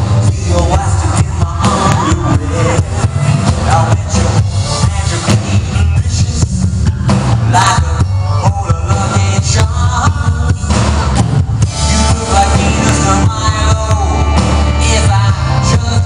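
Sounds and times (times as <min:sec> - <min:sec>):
live rock band playing: 0:00.0 - 0:16.0
man singing into microphone: 0:00.0 - 0:16.0.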